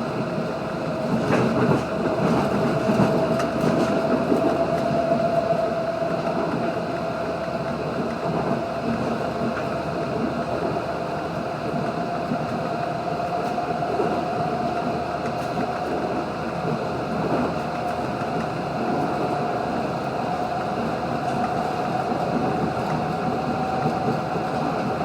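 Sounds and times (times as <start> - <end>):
train engine and wheels rumbling: 0.0 - 25.0.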